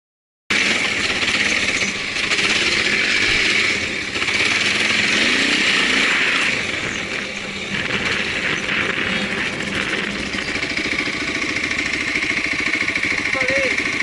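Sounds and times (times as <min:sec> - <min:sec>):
motorcycle engine running: 0:00.5 - 0:14.0.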